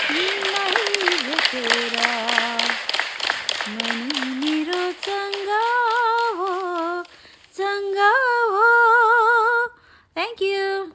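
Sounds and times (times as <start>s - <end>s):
woman singing unaccompanied: 0.0s - 2.9s, 3.6s - 10.9s.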